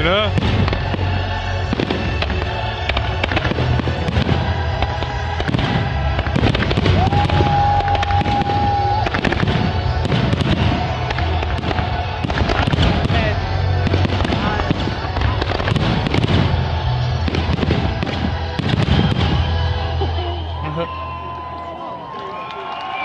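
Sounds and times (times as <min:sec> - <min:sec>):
fireworks bursting and crackling: 0:00.0 - 0:20.6
music playing: 0:00.0 - 0:23.0.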